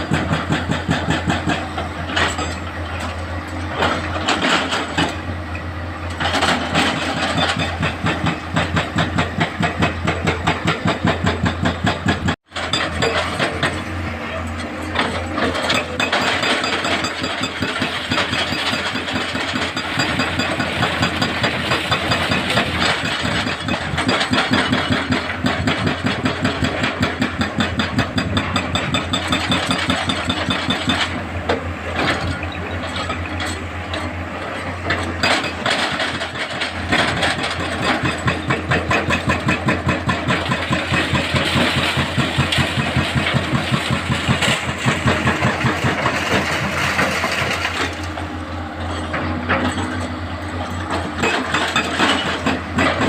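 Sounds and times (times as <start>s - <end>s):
heavy machinery engines running: 0.0s - 53.0s.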